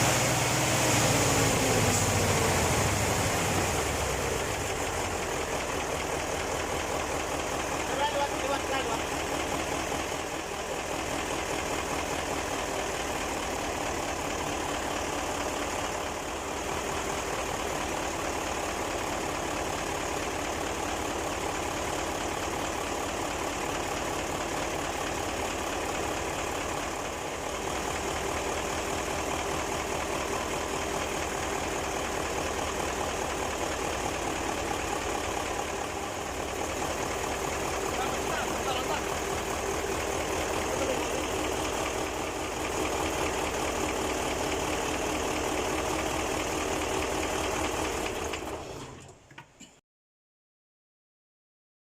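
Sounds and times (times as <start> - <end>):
diesel engine idling: 0.0 - 49.3.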